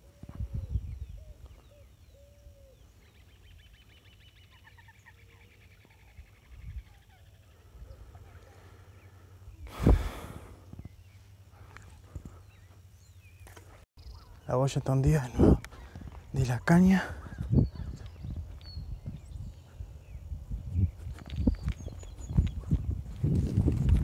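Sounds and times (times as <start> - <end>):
birds chirping and trilling: 0.0 - 23.9.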